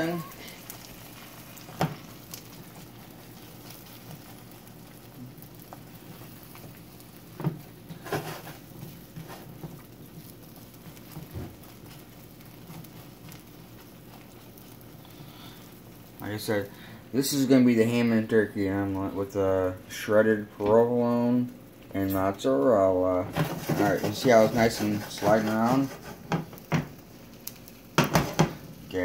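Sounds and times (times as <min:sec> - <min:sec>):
eggs sizzling in a pan: 0:00.0 - 0:29.0.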